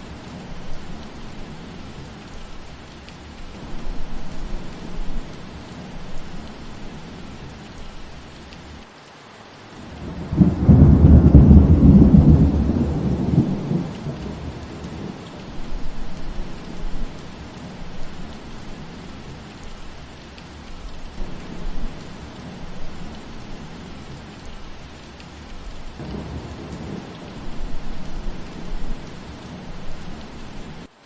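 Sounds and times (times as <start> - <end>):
steady rain: 0.0 - 31.0
thunder rumbling: 3.5 - 8.2, 9.8 - 20.2, 21.0 - 30.9.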